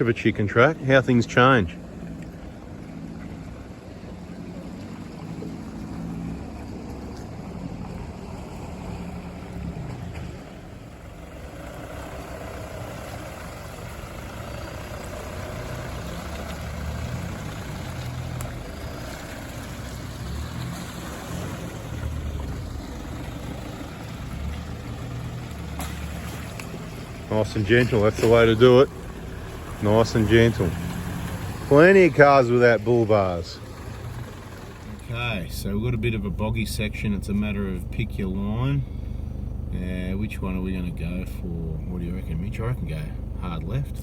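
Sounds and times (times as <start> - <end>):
vehicle engine at low revs: 0.0 - 44.0.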